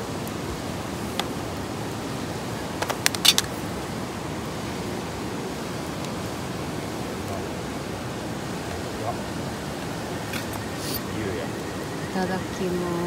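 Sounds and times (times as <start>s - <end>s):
rushing background noise: 0.0s - 13.0s.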